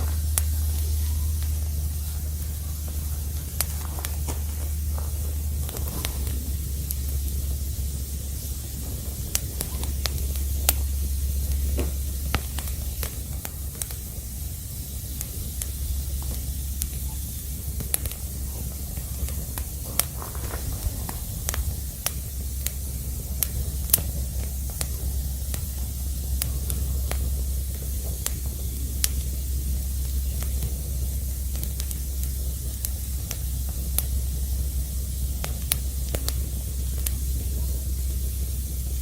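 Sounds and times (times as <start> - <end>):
sharp pops and snaps: 0.0 - 39.0
wood fire crackling: 0.0 - 39.0.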